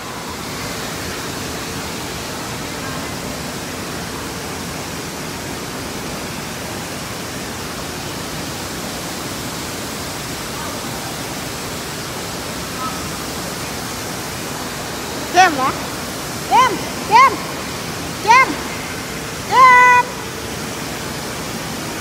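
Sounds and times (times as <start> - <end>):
churning river water: 0.0 - 22.0.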